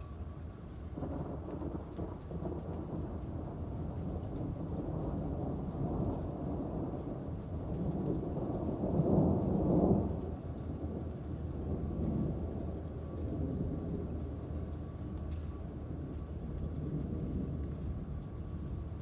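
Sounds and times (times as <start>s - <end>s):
steady rain: 0.0s - 19.0s
thunder rolling: 0.9s - 19.0s.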